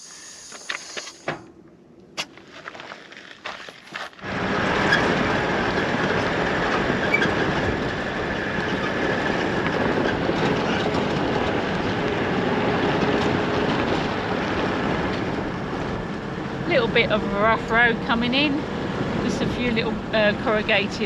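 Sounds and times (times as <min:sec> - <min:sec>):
tyres rumbling on gravel: 0:02.1 - 0:21.0
continuous rattling: 0:02.2 - 0:21.0.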